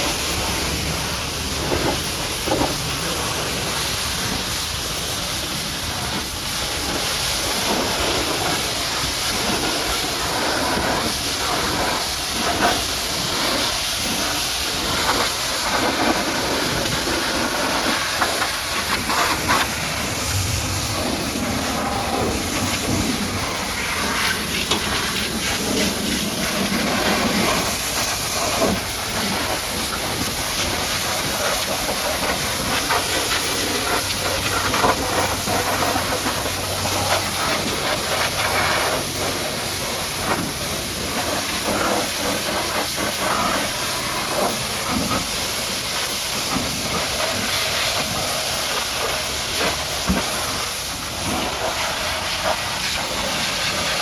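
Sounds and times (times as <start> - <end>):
water jet hissing: 0.0 - 54.0
water spattering on surfaces: 0.0 - 54.0.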